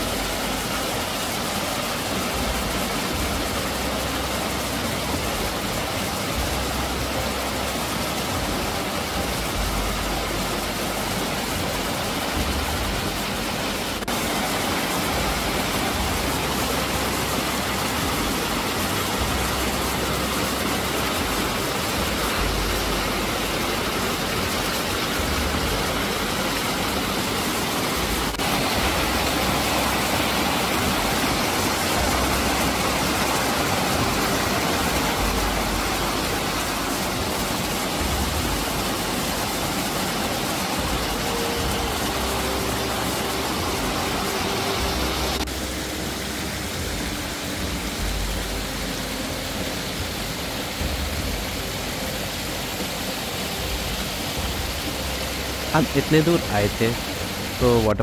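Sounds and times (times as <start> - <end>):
waterfall rushing onto boulders: 0.0 - 58.0.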